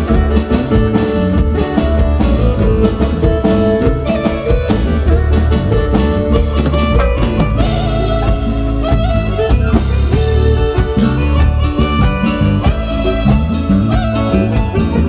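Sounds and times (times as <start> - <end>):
drum kit with snare and bass drum: 0.0 - 15.0
electronic keyboards: 0.0 - 15.0.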